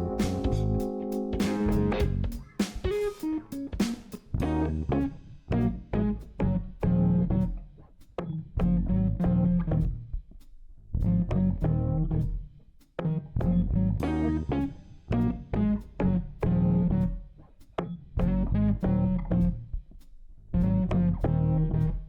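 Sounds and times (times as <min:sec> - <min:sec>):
plucked guitar and bass music: 0:00.0 - 0:07.6, 0:08.2 - 0:10.1, 0:11.0 - 0:17.2, 0:17.8 - 0:19.7, 0:20.5 - 0:22.0.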